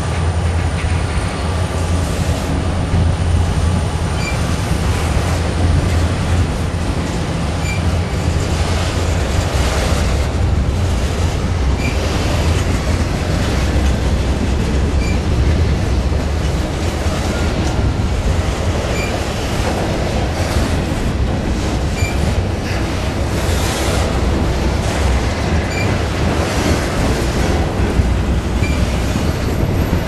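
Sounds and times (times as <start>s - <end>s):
diesel locomotive engines rumbling: 0.0s - 30.0s
train wheels rolling on rails: 0.0s - 30.0s.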